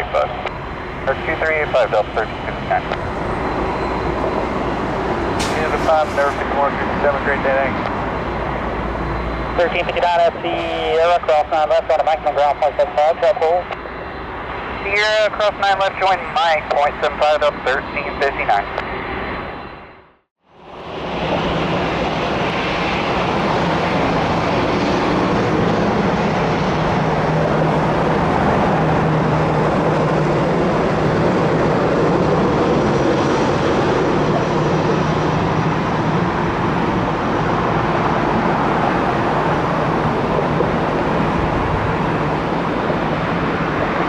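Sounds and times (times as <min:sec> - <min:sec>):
jet engines roaring: 0:00.0 - 0:19.8, 0:20.6 - 0:44.0
faint high engine whine: 0:00.0 - 0:44.0.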